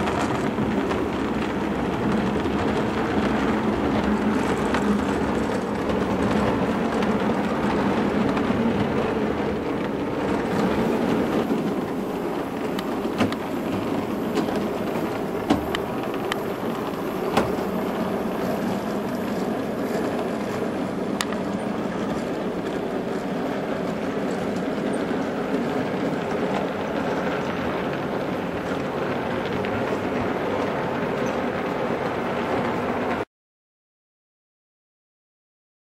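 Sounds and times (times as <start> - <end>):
model train rolling rumble: 0.0 - 33.2
sharp track clicks: 0.0 - 33.2.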